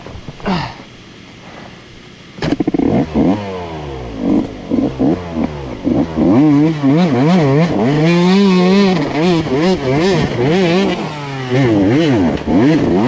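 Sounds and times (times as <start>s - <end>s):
dirt bike engine revving: 2.4s - 13.0s.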